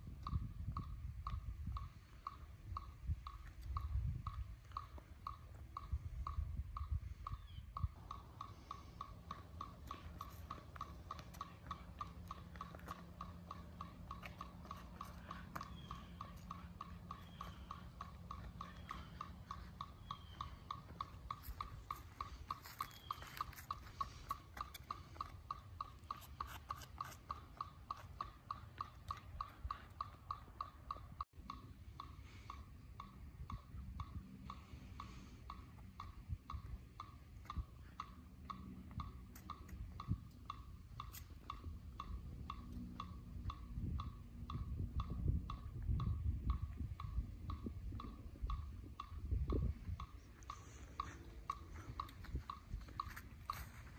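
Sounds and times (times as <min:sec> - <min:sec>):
metronome ticking: 0:00.0 - 0:53.9.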